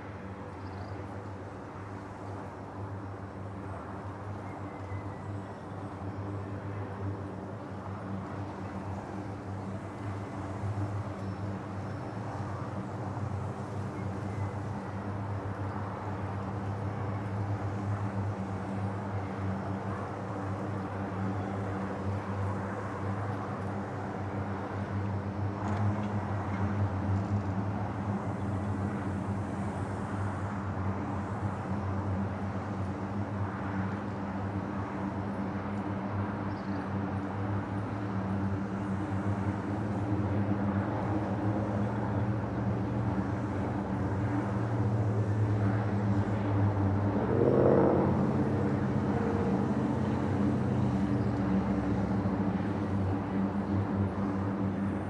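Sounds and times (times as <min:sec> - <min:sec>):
turboprop aircraft engines droning: 0:00.0 - 0:55.0.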